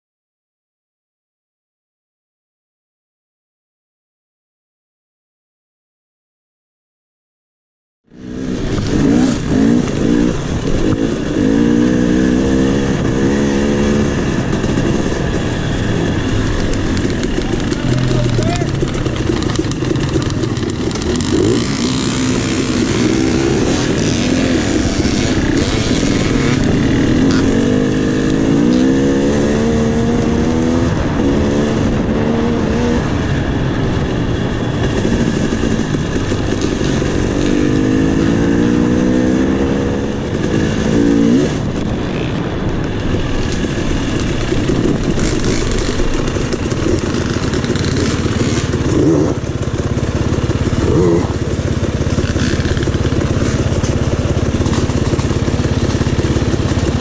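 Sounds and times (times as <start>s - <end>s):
dirt bike engine revving: 8.1s - 42.7s, 43.4s - 57.0s.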